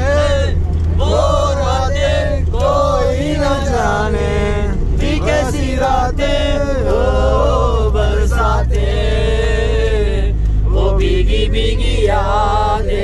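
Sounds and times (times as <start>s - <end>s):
bus rumbling: 0.0s - 13.0s
people singing together: 0.0s - 13.0s.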